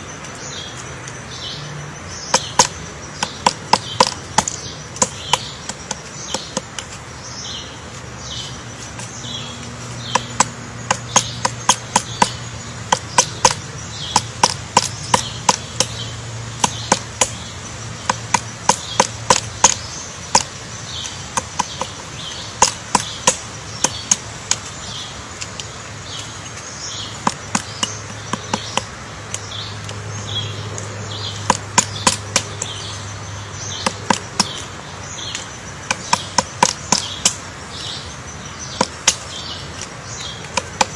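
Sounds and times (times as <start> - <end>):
woodpecker tapping on wood: 0.0 - 40.9.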